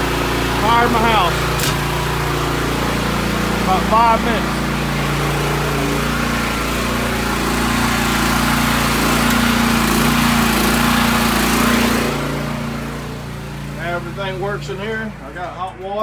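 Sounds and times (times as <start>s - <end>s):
generator engine running: 0.0s - 16.0s.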